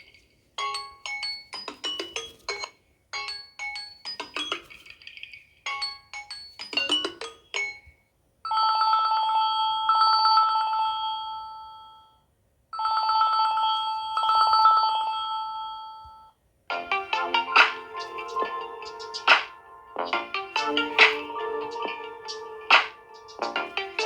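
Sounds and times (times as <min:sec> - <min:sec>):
melodic ringtone: 0:00.6 - 0:07.9, 0:08.5 - 0:12.2, 0:12.8 - 0:24.0.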